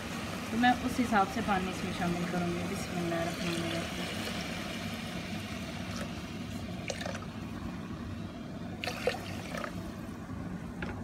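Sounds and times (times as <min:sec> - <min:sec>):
water pouring into a pot: 0:00.0 - 0:07.8, 0:08.8 - 0:10.0.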